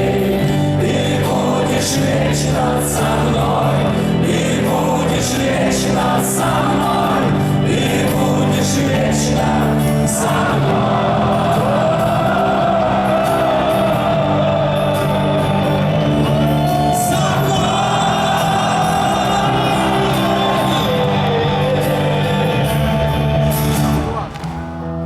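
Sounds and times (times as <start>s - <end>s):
voices singing and shouting: 0.0s - 25.0s.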